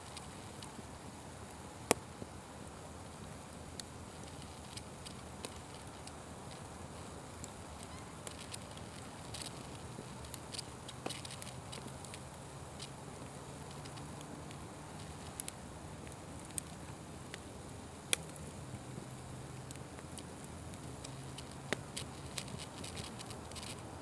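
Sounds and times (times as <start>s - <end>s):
open fire crackling: 0.0s - 24.0s.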